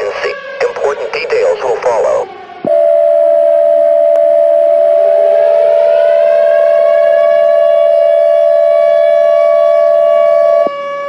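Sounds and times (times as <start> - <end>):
siren winding up: 1.9 - 10.8.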